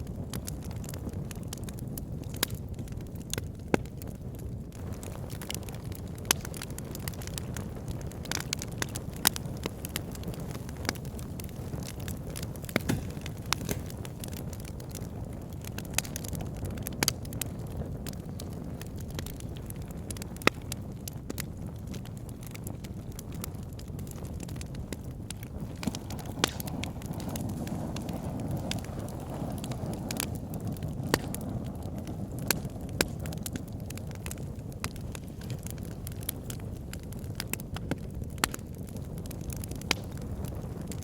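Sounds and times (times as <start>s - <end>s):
logs burning with crackles: 0.0s - 41.0s.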